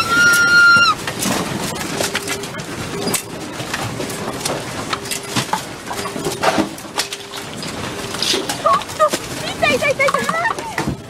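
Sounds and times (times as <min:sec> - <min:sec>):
objects and furniture rattling: 0:00.0 - 0:11.0.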